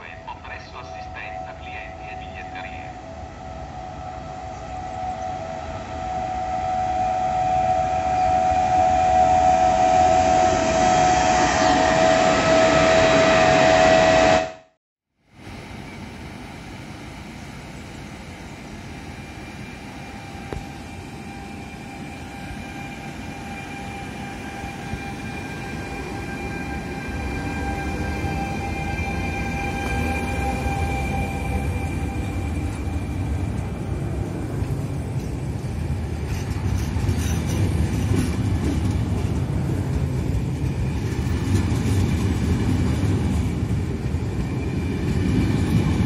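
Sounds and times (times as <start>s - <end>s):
train rumbling: 0.0s - 14.6s, 15.4s - 46.0s.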